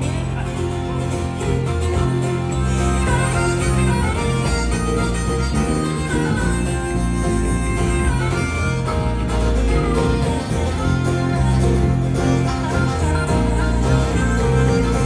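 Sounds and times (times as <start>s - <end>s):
electric bass: 0.0s - 15.0s
harmonica lead: 0.0s - 15.0s
strummed acoustic guitars: 0.0s - 15.0s.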